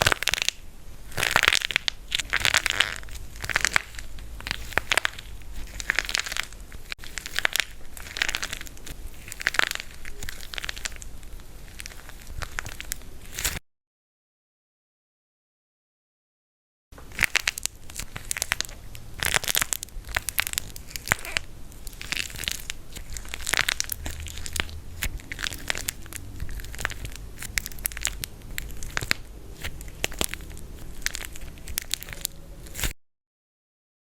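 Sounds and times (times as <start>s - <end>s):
dry plaster clay crunching: 0.0s - 13.6s, 17.0s - 33.0s.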